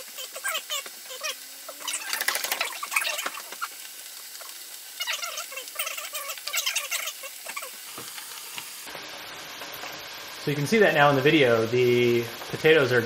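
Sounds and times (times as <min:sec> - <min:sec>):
oil bubbling and crackling: 0:00.0 - 0:13.0
steady frying hiss: 0:00.0 - 0:13.0.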